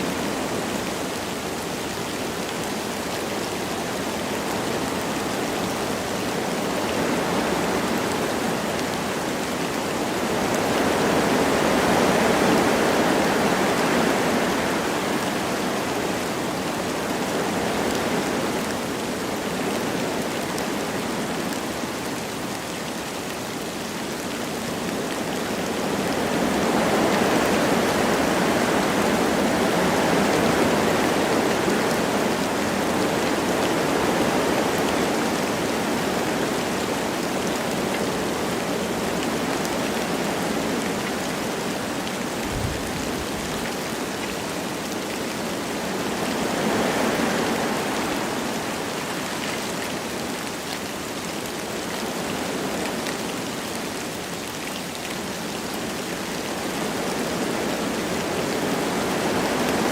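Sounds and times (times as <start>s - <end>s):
light rain falling: 0.0s - 59.9s
wind rushing through trees: 0.0s - 59.9s.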